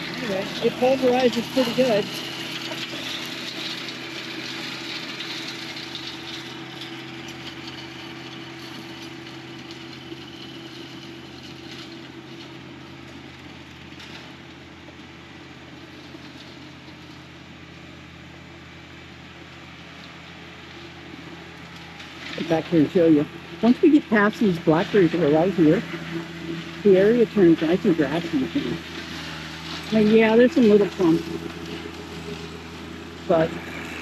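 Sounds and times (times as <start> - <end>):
flail mower running: 0.0 - 34.0
tractor diesel engine hum: 0.0 - 34.0.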